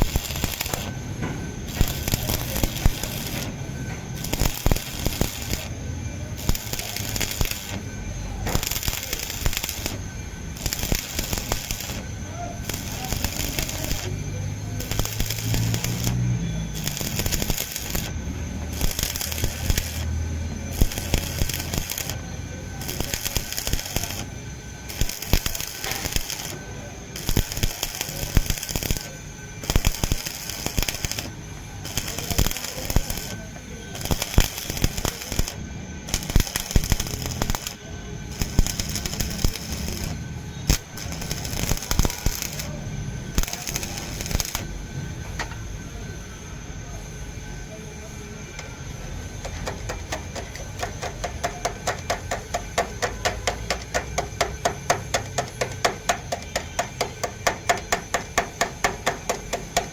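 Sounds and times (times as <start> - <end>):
welding arc crackling: 0.0 - 45.6, 48.6 - 59.9.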